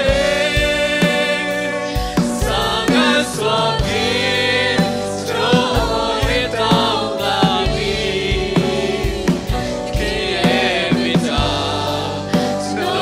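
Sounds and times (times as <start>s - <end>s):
drum kit beat: 0.0s - 13.0s
voices singing together: 0.0s - 13.0s.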